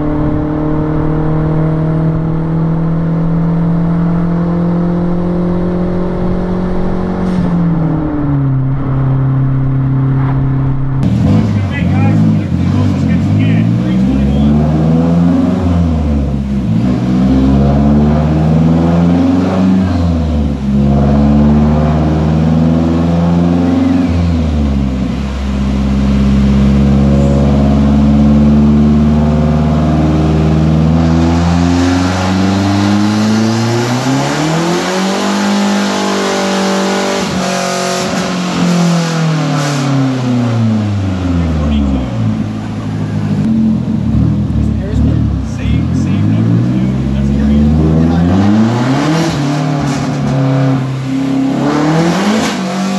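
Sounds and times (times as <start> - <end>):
car engine accelerating hard: 0.0 - 52.9.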